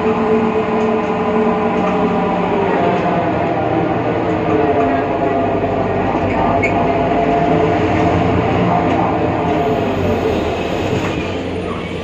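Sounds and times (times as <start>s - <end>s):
bus driveline whine: 0.0s - 12.0s
road noise: 0.0s - 12.0s.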